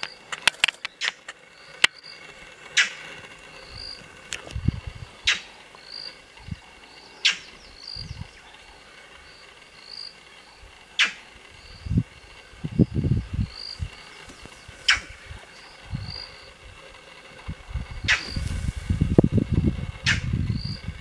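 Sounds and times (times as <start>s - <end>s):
insects chirring: 0.0s - 21.0s
low rumbles: 1.5s - 21.0s.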